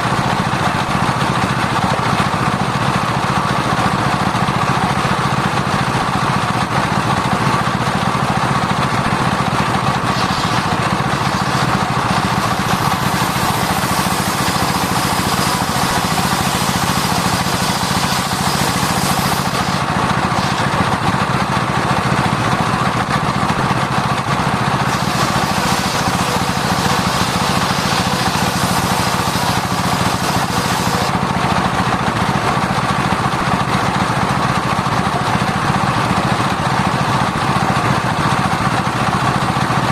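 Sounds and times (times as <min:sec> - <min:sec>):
circular saw cutting timber: 0:00.0 - 0:39.9.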